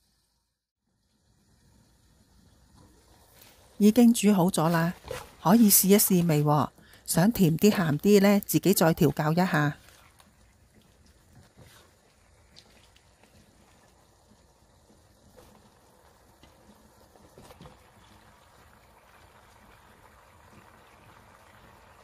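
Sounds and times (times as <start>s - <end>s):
faint simmering in a wok: 0.0s - 22.0s.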